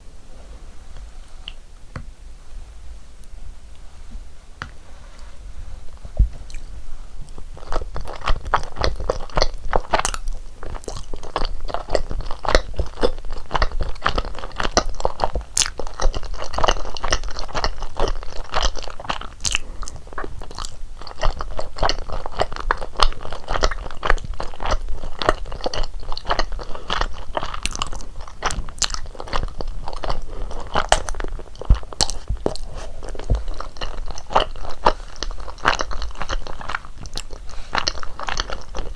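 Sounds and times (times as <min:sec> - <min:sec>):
close-miked chewing and mouth sounds: 0:05.9 - 0:38.9.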